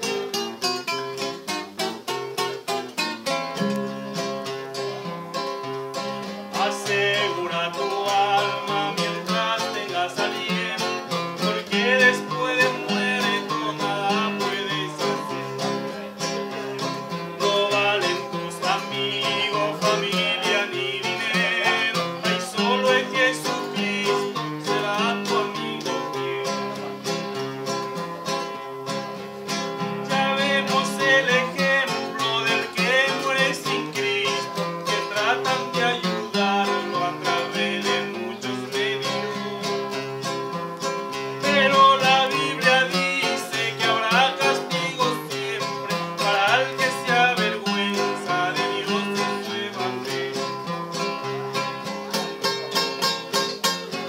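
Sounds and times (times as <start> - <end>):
two acoustic guitars playing: 0.0 - 54.0.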